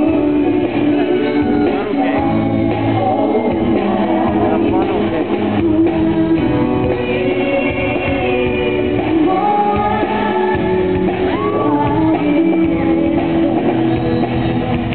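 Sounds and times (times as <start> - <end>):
electric guitar: 0.0 - 14.9
keyboard: 0.0 - 14.9
woman singing into microphone: 0.0 - 14.9.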